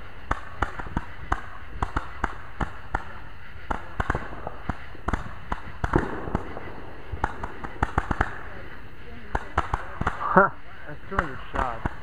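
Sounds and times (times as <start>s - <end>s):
firework cake popping: 0.0s - 12.0s.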